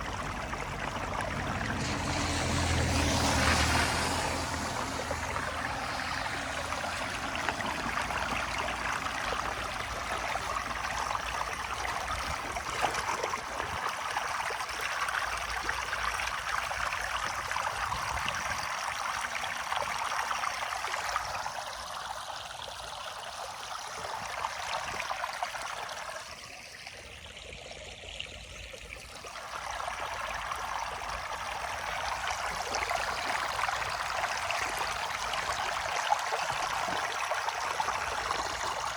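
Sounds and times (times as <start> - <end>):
floodwater rushing down a drain: 0.0 - 38.9.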